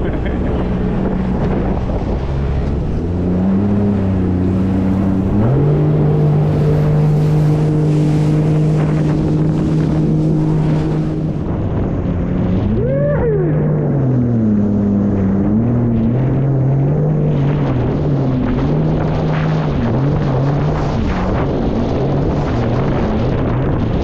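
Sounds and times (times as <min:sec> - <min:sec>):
jet ski engine under throttle: 0:00.0 - 0:24.0
wind and water rushing: 0:00.0 - 0:24.0.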